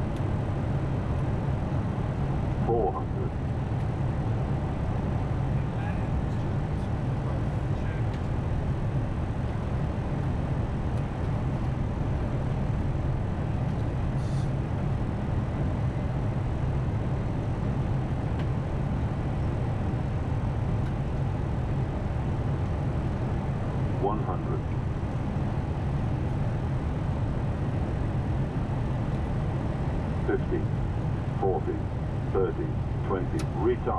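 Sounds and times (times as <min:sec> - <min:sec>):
cockpit airflow and engine rushing: 0:00.0 - 0:33.9.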